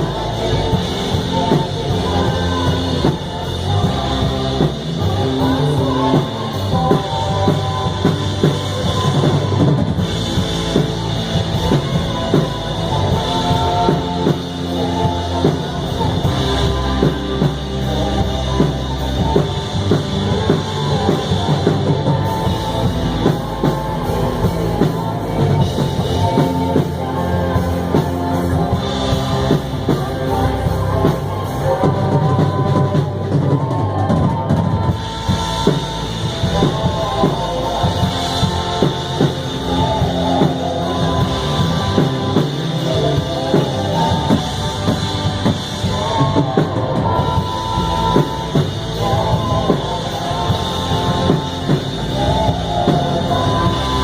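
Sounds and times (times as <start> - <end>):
band playing a song: 0.0 - 54.0
drum kit: 0.0 - 54.0.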